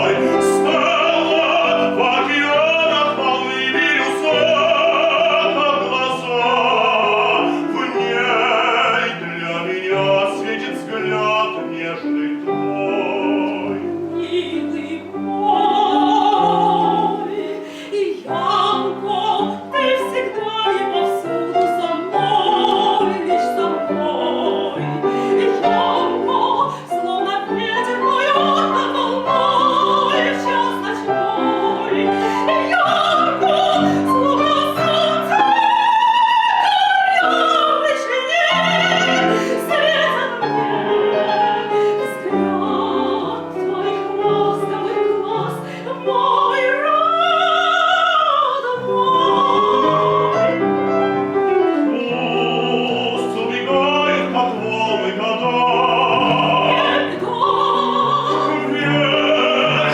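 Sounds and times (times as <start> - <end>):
man singing opera: 0.0 - 50.6, 51.8 - 59.9
piano accompaniment: 0.0 - 59.9
soprano singing opera: 0.0 - 59.9.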